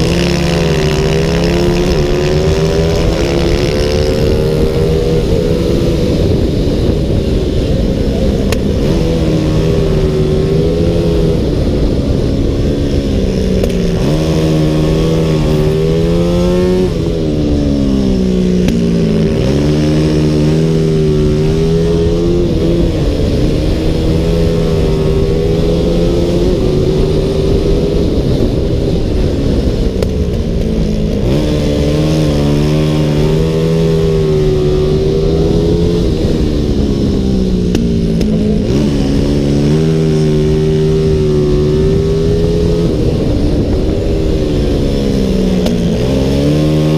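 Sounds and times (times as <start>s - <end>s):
motorcycle engine revving at race speed: 0.0s - 46.9s.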